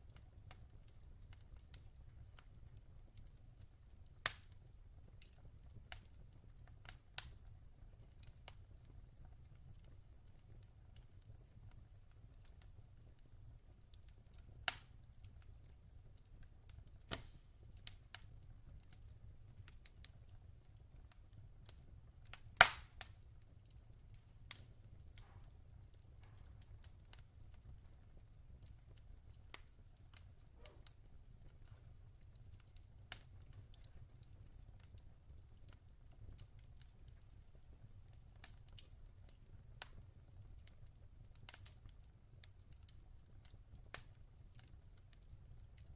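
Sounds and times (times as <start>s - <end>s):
log fire crackling: 0.0s - 45.9s.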